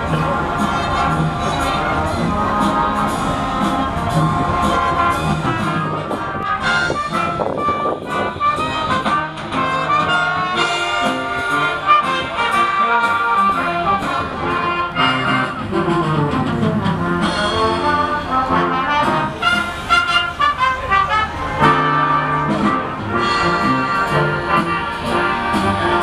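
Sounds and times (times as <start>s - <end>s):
percussion strikes: 0.0s - 20.7s, 21.6s - 26.0s
brass-led music: 0.0s - 26.0s.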